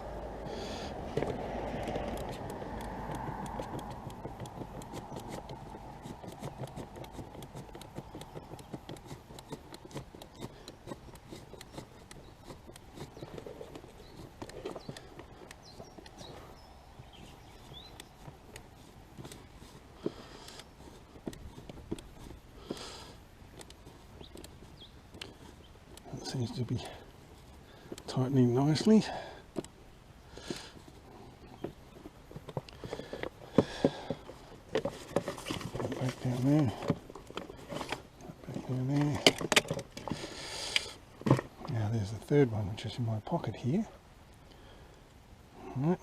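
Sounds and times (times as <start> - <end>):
screw tightening clicks and scrapes: 0.6 - 16.4, 17.0 - 29.8, 30.4 - 42.4.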